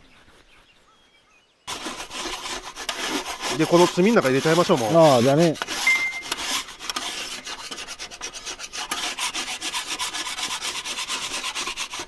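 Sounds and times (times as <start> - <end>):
metal spatulas scraping griddle: 1.7 - 12.0.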